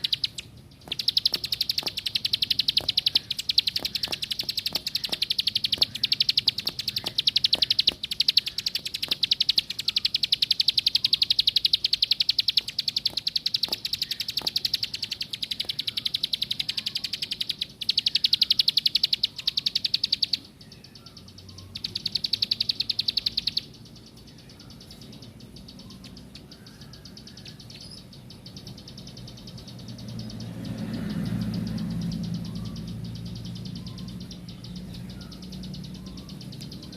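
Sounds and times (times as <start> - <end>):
bird singing buzzy trill: 0.0 - 36.9.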